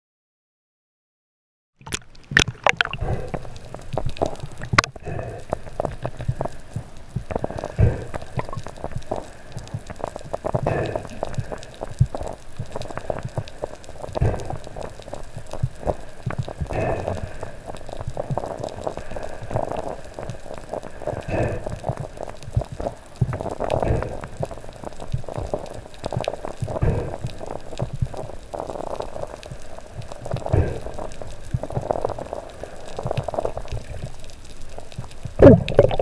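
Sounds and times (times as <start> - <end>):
underwater water gurgling: 1.8 - 36.0.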